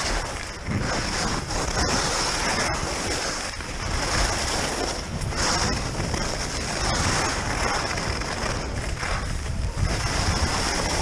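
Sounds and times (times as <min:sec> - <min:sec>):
skis scraping over snow: 0:00.0 - 0:11.0
wind rushing over microphone: 0:00.0 - 0:11.0.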